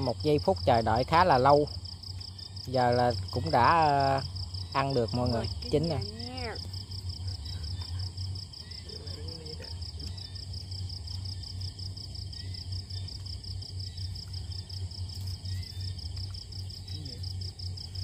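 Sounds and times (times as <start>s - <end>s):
crickets chirping: 0.0s - 18.0s
low steady hum: 0.0s - 18.0s.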